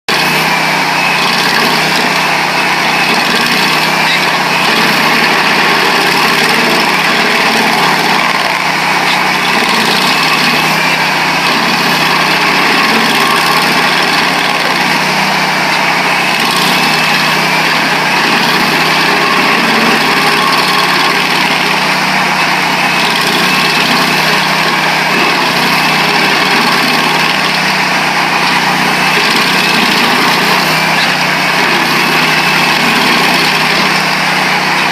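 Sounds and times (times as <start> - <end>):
cutter wheel grinding stump: 0.1 - 34.9
stump grinder engine running: 0.1 - 34.9.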